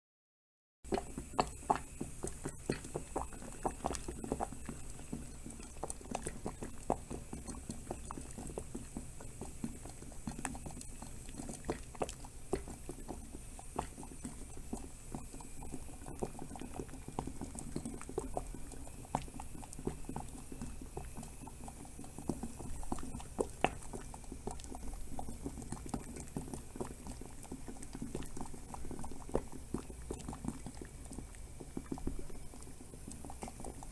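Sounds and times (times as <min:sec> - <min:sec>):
water boiling with pops: 0:00.8 - 0:33.9.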